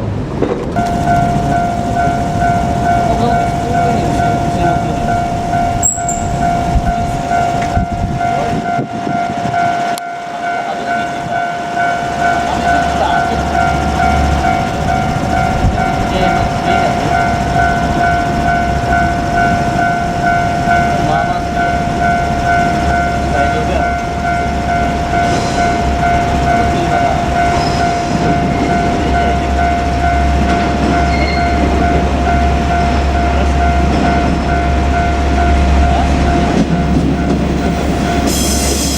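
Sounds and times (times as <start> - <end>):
train rumbling past: 0.0 - 38.9
level-crossing warning bell: 0.8 - 38.9.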